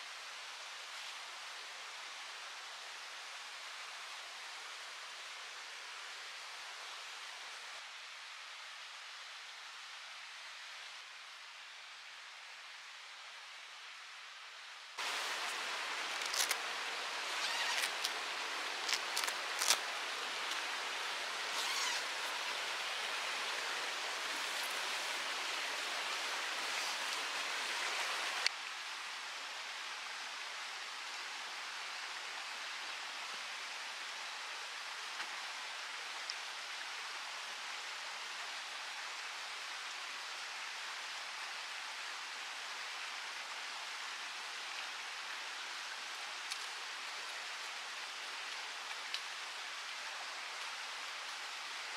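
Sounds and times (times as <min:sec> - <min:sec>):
rushing outdoor noise: 0:00.0 - 0:51.9.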